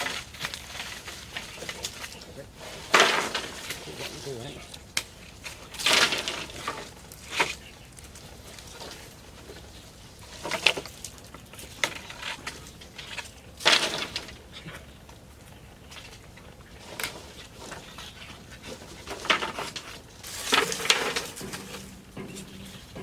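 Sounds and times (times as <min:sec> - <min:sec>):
bamboo knocks and clatters: 0:00.0 - 0:04.2, 0:04.8 - 0:14.8, 0:15.8 - 0:23.0.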